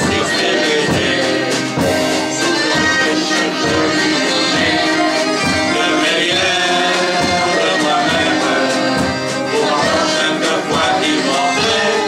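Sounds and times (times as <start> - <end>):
accordion: 0.0 - 12.0
acoustic guitar: 0.0 - 12.0
drum beat: 0.0 - 12.0
keyboard: 0.0 - 12.0
voices singing together: 0.0 - 12.0.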